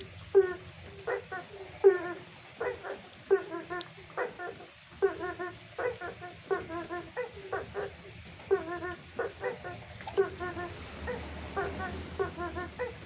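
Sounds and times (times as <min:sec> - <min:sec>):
frog croaking: 0:00.0 - 0:13.0.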